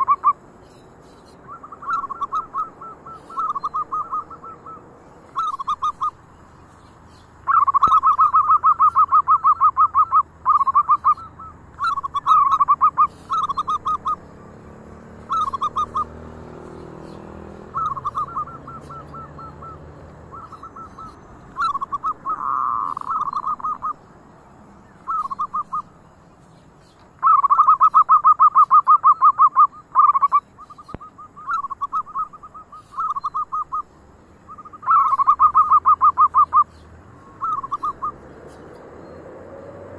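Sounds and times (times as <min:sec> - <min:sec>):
dove cooing: 0:01.3 - 0:06.3, 0:07.4 - 0:24.1, 0:24.9 - 0:26.0, 0:27.2 - 0:33.9, 0:34.5 - 0:38.2.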